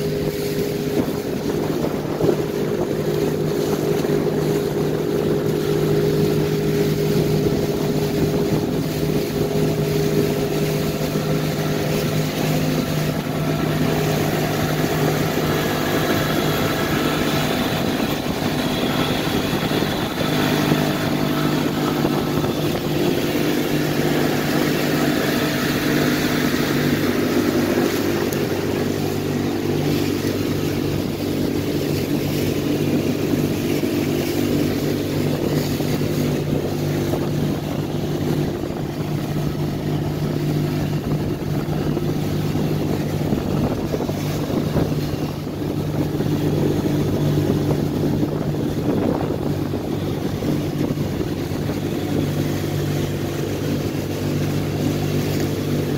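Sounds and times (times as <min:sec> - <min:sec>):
outboard motor running: 0:00.0 - 0:55.9
water and wind hiss: 0:00.0 - 0:55.9.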